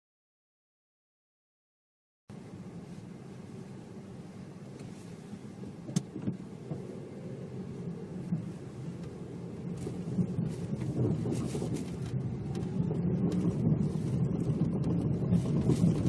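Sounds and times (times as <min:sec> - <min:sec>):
road and tyre rumble: 0:02.3 - 0:16.0.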